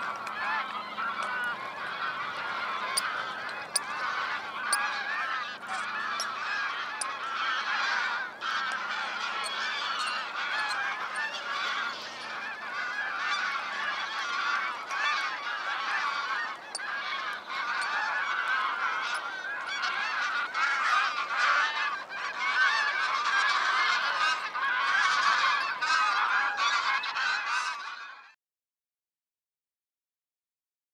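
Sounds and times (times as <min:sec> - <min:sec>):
flock of waterbirds calling: 0:00.0 - 0:28.4.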